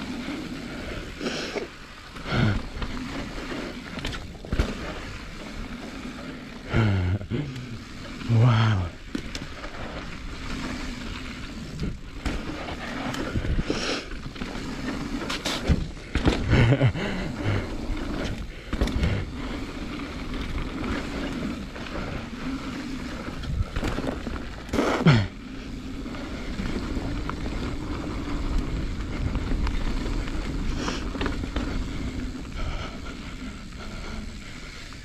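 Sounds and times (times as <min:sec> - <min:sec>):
tyres rolling over dirt: 0:00.0 - 0:35.0
bike clunks and rattles: 0:02.1 - 0:33.0.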